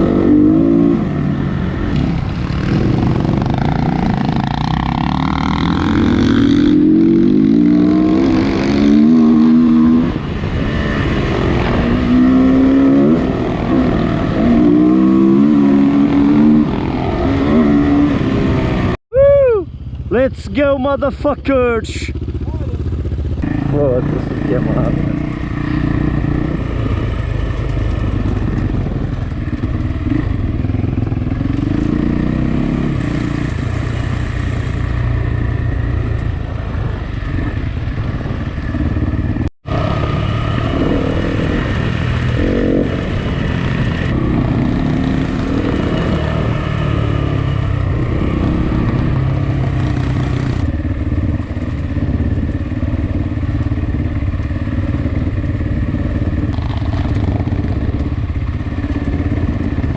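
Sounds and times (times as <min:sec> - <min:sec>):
dirt bike engine revving: 0:00.0 - 0:19.0, 0:21.2 - 0:59.9.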